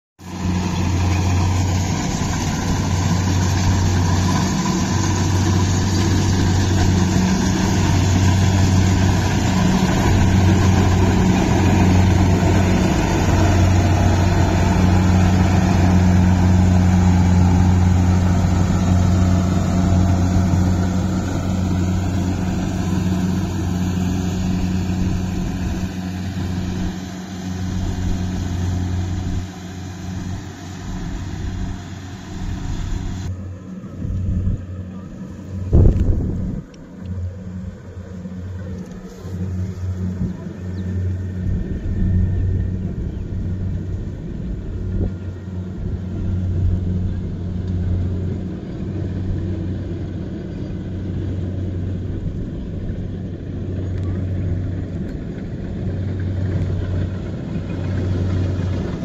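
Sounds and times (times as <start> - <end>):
combine harvester running: 0.2 - 59.0.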